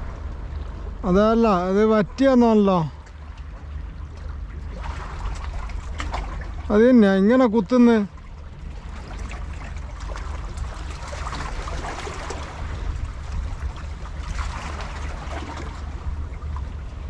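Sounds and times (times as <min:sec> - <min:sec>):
low rumble: 0:00.0 - 0:17.0
sea water splashing: 0:00.0 - 0:17.0.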